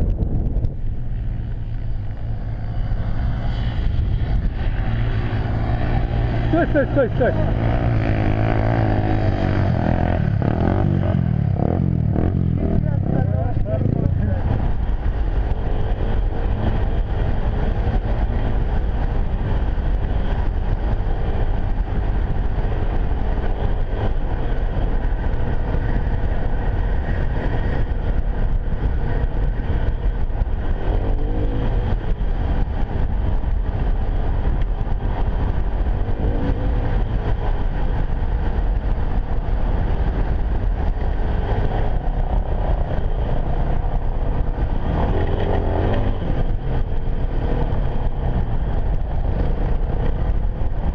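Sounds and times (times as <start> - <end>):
motorcycle engine running: 0.0 - 50.9
wind rumble on microphone: 0.0 - 50.9.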